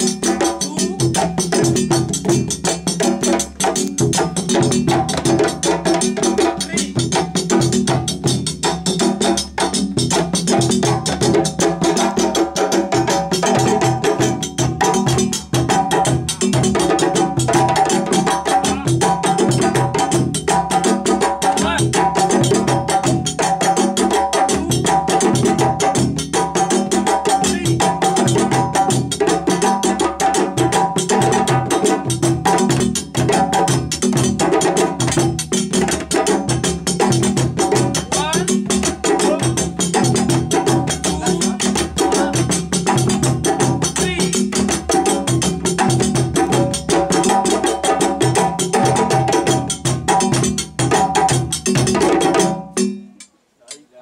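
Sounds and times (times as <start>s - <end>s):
hand drums playing fast rhythm: 0.0s - 53.3s.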